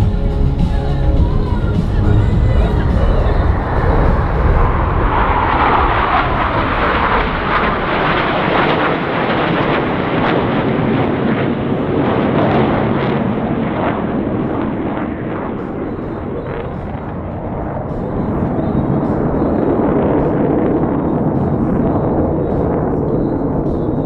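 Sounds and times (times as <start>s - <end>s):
jets flying past roaring: 1.1s - 24.0s.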